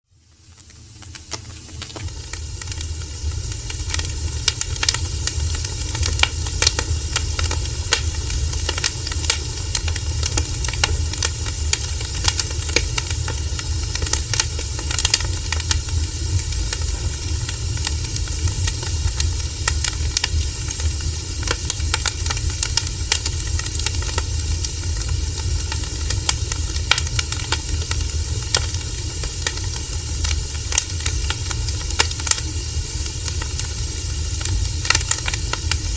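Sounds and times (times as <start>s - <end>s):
wood fire crackling and popping: 0.1s - 35.9s.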